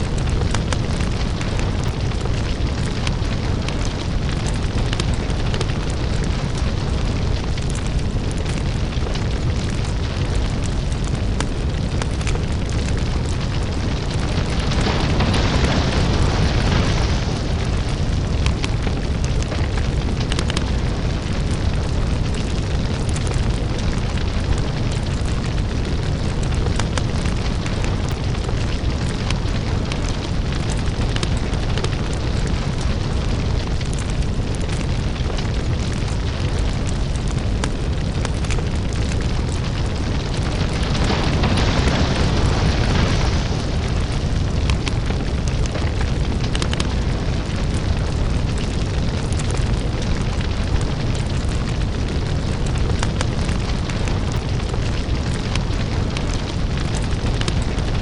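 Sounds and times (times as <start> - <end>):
deep steady rumble: 0.0 - 58.0
fire crackles and pops: 0.0 - 58.0.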